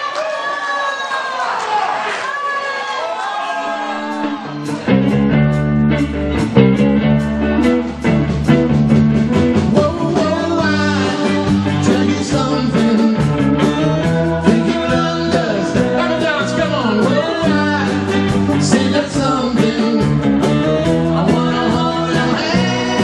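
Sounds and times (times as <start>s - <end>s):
live rock band playing: 3.9s - 23.0s.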